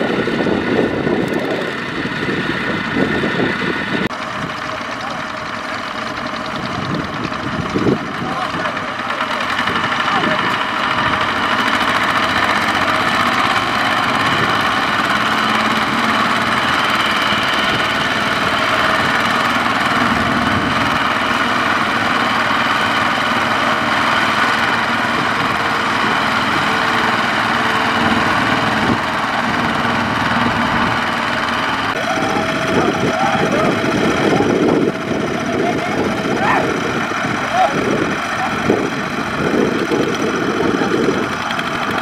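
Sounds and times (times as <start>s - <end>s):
diesel tractor engines running: 0.0s - 42.0s.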